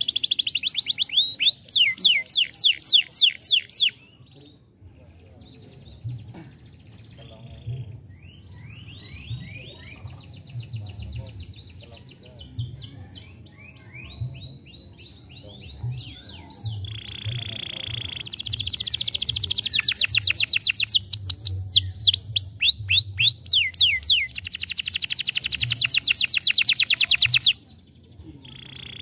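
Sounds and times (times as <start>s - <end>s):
canary singing: 0.0s - 4.3s, 7.2s - 29.0s.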